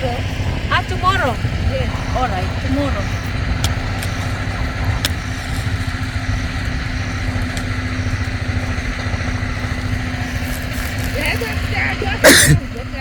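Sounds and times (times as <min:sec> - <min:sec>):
generator engine humming: 0:00.0 - 0:13.0.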